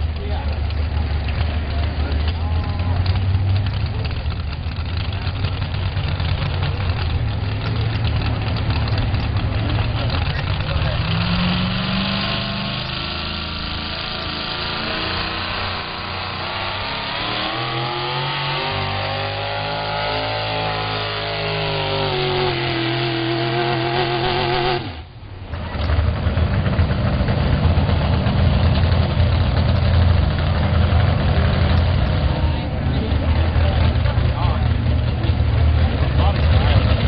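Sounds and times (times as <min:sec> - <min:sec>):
truck engine under load: 0:00.0 - 0:37.0.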